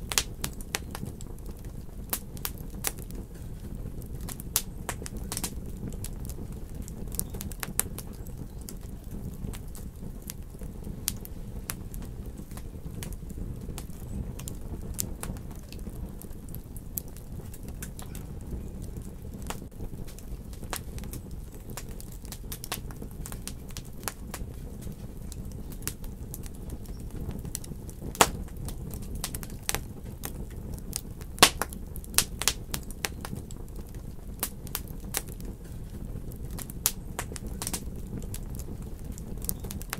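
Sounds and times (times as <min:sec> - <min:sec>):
fire snaps and pops: 0:00.0 - 0:39.9
steady low rumble: 0:00.0 - 0:39.9
wood fire crackling: 0:00.0 - 0:39.9.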